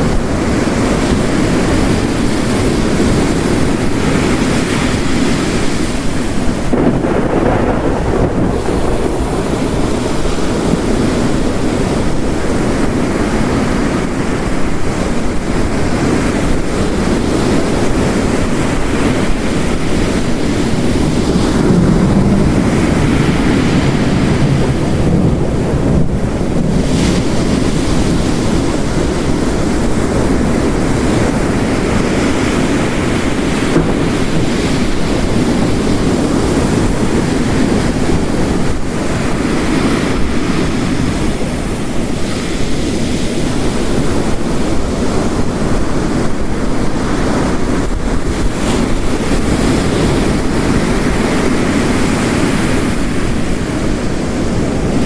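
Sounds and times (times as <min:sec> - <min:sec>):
heavy rain: 0:00.0 - 0:55.0
ocean waves breaking: 0:00.0 - 0:55.0.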